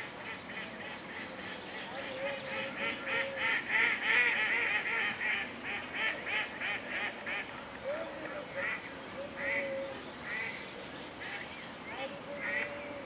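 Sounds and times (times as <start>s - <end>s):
ducks quacking: 0.0s - 10.6s, 11.2s - 13.0s.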